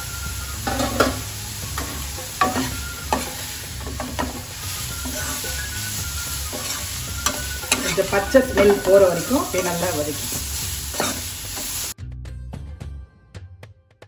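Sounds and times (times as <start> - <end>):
carrots sizzling in a pan: 0.0 - 12.0
steel spoon scraping a pan: 0.6 - 11.9.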